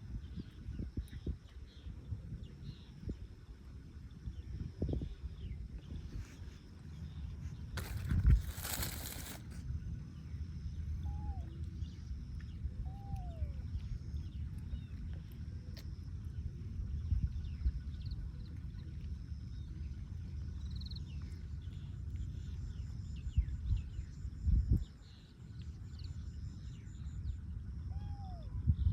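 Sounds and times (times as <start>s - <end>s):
steady low rumble: 0.0s - 27.9s.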